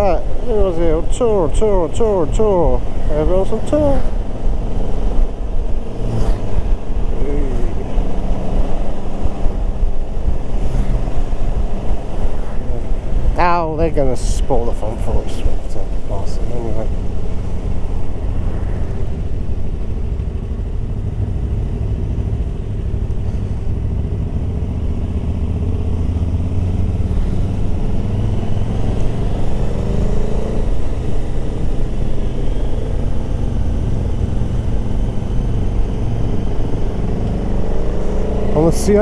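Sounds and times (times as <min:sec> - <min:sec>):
motorcycle engine rumbling: 0:00.0 - 0:39.0.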